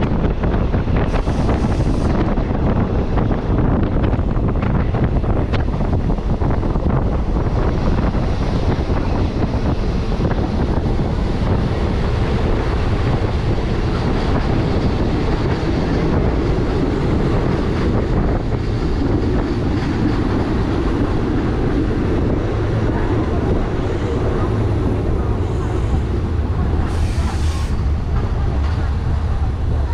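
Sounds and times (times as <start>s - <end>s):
train rumbling: 0.0s - 29.9s
wind buffeting microphone: 0.0s - 29.9s.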